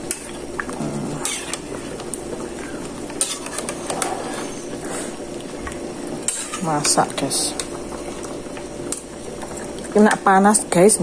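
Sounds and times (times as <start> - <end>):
soup bubbling: 0.0 - 10.1.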